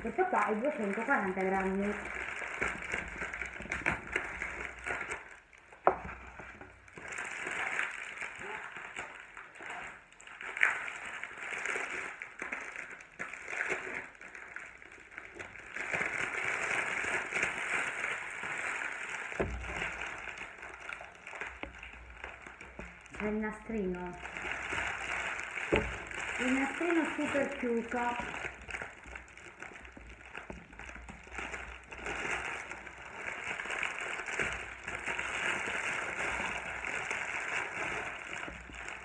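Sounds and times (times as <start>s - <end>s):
foil and plastic wrapper crinkling: 0.0s - 39.0s.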